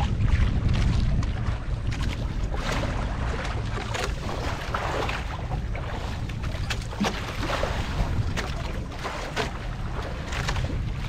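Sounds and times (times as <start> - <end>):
water slapping against hull: 0.0 - 11.0
wind rumbling on microphone: 0.0 - 11.0.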